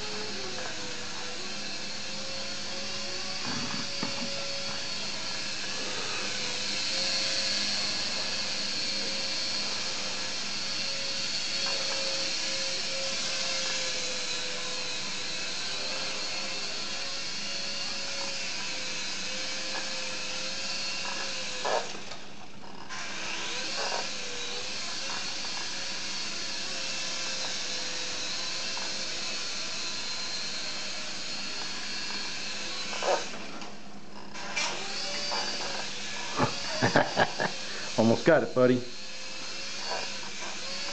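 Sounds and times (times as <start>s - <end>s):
toy helicopter rotor whining: 0.0s - 40.9s.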